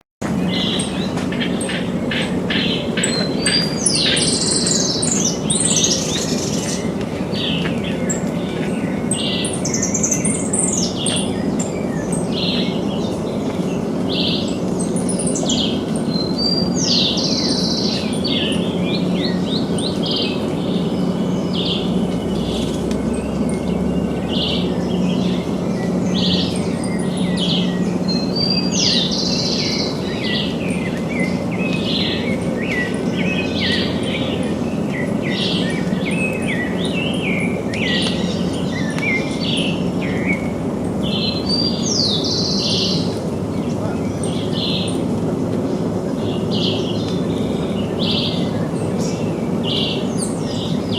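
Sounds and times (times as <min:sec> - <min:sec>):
small birds chirping: 0:00.3 - 0:50.9.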